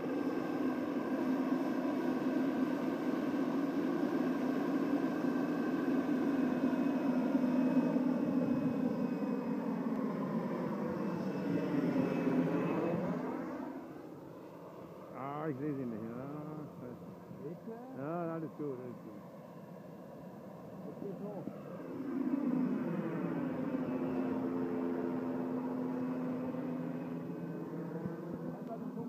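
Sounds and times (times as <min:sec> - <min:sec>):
model helicopter turbine whine: 0:00.0 - 0:29.0.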